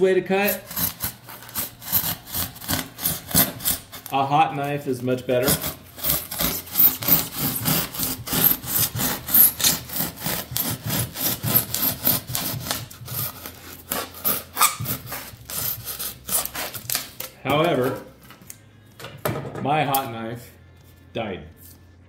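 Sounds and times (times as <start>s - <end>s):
knife sawing through foam board: 0.4s - 18.1s.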